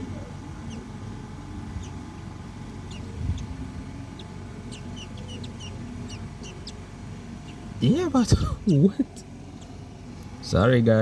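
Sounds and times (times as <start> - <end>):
baby birds cheeping: 0.0 - 11.0
steady low rumble: 0.0 - 11.0.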